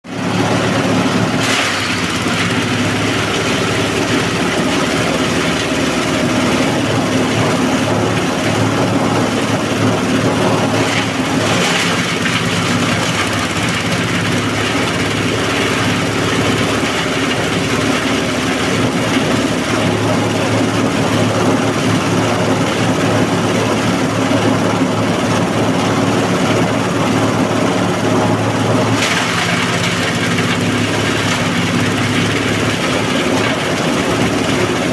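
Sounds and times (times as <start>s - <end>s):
small diesel engine running: 0.0s - 34.9s.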